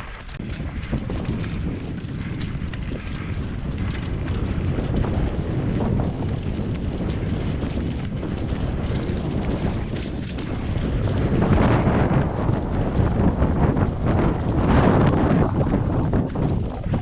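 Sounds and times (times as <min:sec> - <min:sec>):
bike rattling on rocky trail: 0:00.0 - 0:17.0
wind rushing over microphone: 0:00.0 - 0:17.0.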